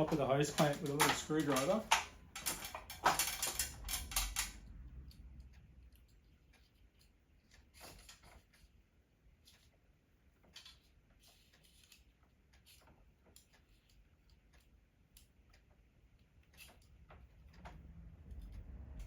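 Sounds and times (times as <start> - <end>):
small metal parts clicking: 0.0 - 8.7, 10.4 - 15.3, 16.4 - 19.0.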